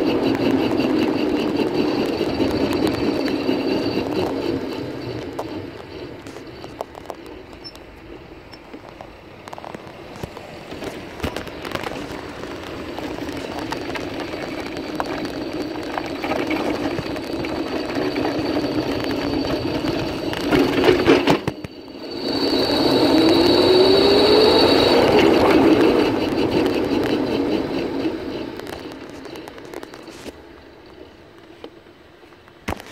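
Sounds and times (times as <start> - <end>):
rising motor whine: 0.0 - 9.0, 10.3 - 31.2
electric go-kart rolling on asphalt: 0.0 - 32.9.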